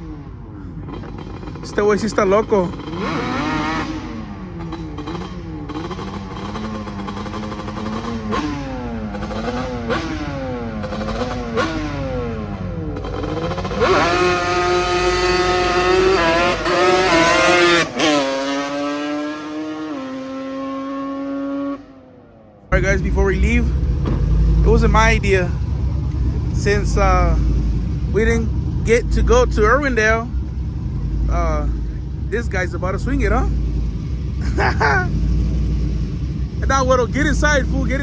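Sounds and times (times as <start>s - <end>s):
vehicle engine revving: 0.0s - 21.9s, 22.7s - 38.0s.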